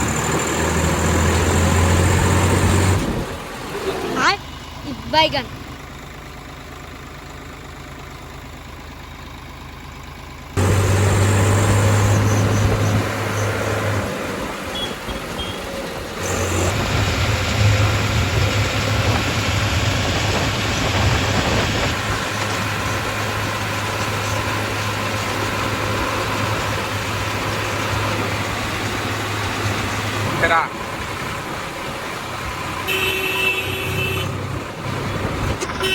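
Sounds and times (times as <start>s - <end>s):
tractor diesel engine droning: 0.0s - 35.9s.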